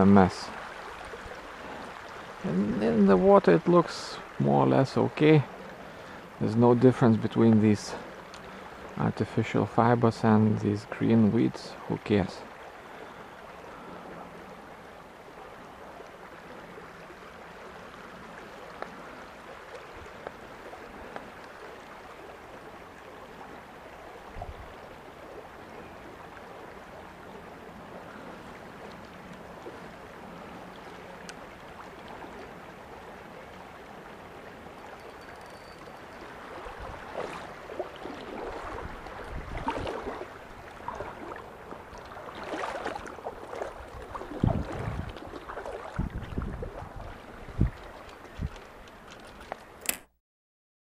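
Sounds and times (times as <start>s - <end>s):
stream water running: 0.0s - 50.1s.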